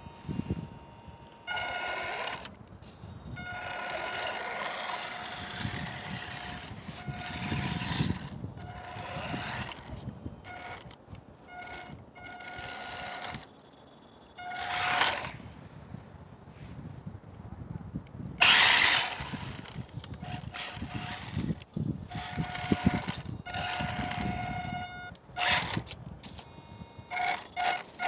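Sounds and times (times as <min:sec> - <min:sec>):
toy car motor whining: 0:00.0 - 0:15.4, 0:18.4 - 0:28.0.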